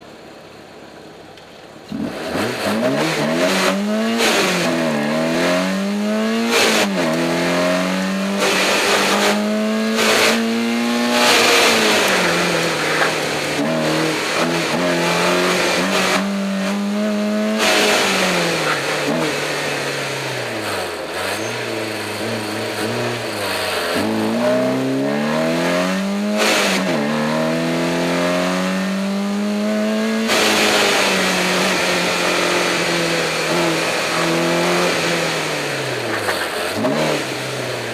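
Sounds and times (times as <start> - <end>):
car engine revving hard: 1.9 - 37.9.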